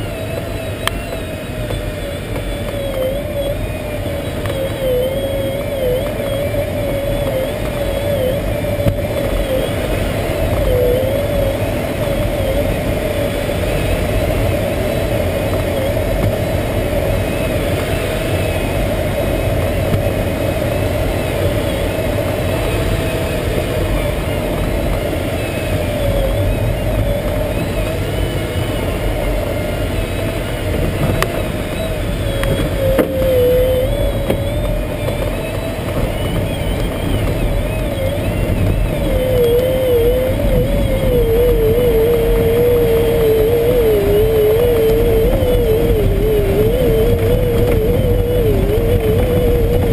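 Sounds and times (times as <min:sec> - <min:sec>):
continuous wavering tone: 0:00.0 - 0:49.9
rushing airflow in cockpit: 0:00.0 - 0:49.9.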